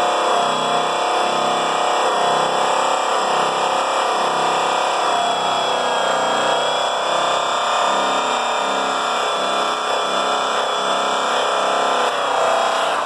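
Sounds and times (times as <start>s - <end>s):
angle grinder whining on metal: 0.0s - 13.0s.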